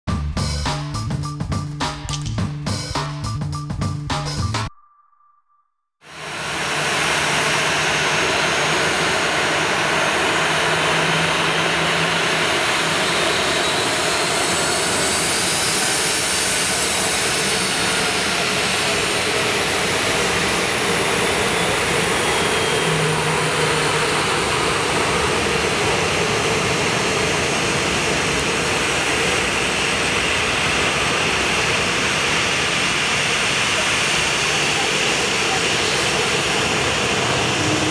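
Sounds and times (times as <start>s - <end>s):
jet engines running: 6.1s - 37.9s.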